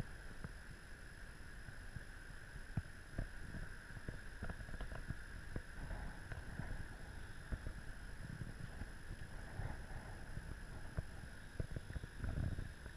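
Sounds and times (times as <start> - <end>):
wind rumble on microphone: 1.5 - 12.9.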